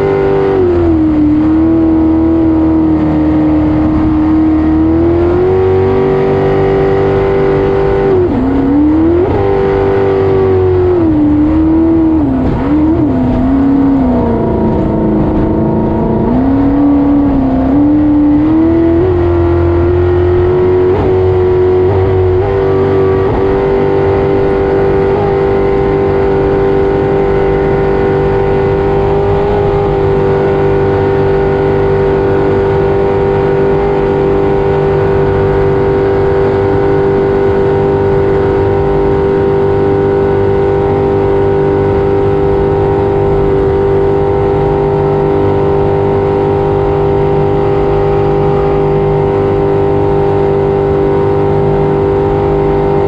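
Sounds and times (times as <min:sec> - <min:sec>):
jet boat engine at high revs: 0:00.0 - 0:53.0.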